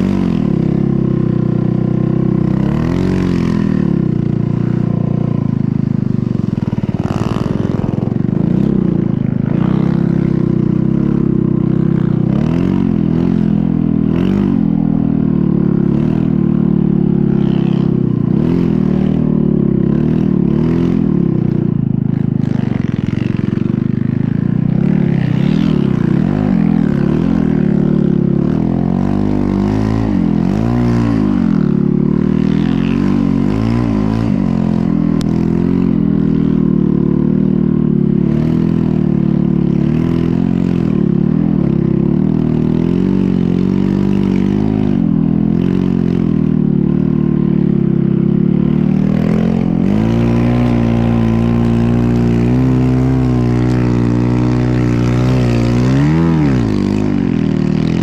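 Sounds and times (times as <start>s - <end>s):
snow bike engine revving: 0.0s - 58.0s.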